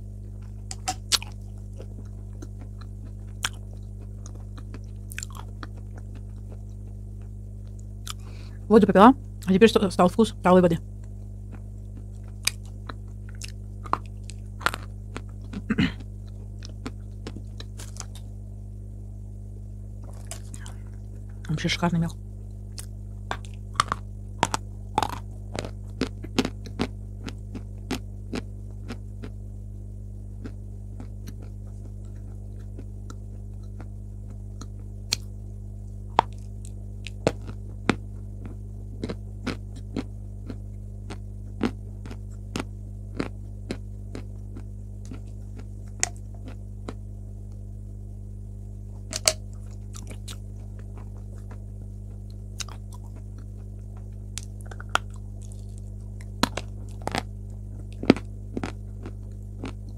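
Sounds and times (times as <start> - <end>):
electrical mains hum: 0.0 - 59.9
chalk crunching while chewing: 0.2 - 8.2, 11.5 - 18.3, 22.7 - 29.4, 30.4 - 47.0, 49.0 - 59.9.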